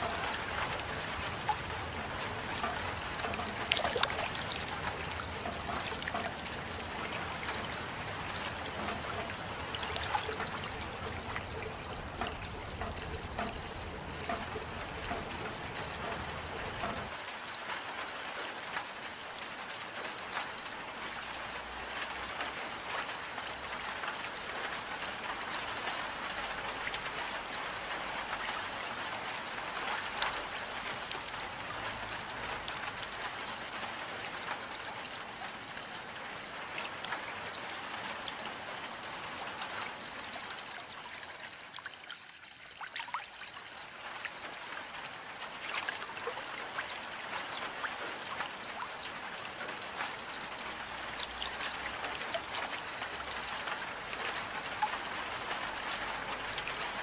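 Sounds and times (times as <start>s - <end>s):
steady rain hiss: 0.0s - 41.0s, 43.5s - 57.0s
raindrops ticking: 0.0s - 57.0s.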